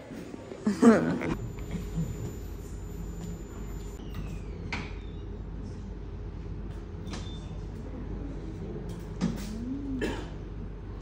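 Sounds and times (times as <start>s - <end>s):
furnace rumble: 0.0s - 7.0s, 7.6s - 11.0s.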